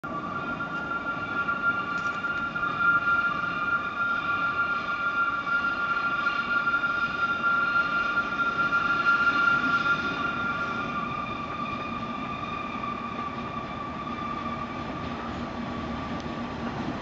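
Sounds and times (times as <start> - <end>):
high-pitched whine: 0.0 - 17.0
train engine rumble: 0.0 - 17.0.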